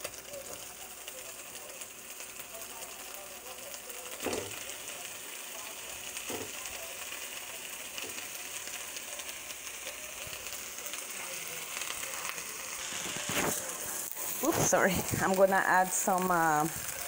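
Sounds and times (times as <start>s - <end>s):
shrimp sizzling in a wok: 0.0s - 17.0s.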